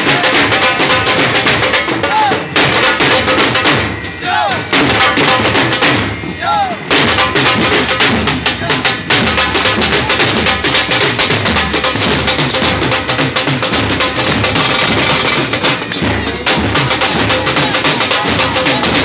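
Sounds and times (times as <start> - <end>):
drums beating fast rhythm: 0.0 - 19.0.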